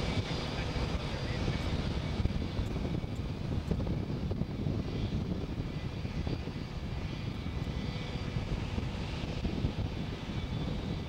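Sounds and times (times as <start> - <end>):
jet engines rumbling and whining: 0.0 - 11.0.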